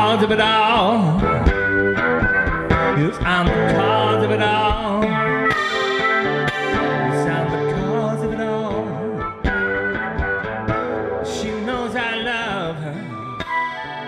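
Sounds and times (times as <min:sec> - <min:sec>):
person singing: 0:00.0 - 0:10.0, 0:10.8 - 0:14.0
guitar: 0:00.0 - 0:14.0
harmonica playing: 0:00.0 - 0:14.0.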